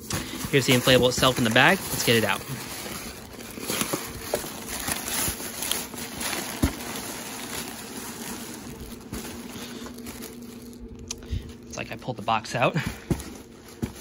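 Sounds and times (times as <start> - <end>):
plastic bag rustling: 0.0 - 14.0.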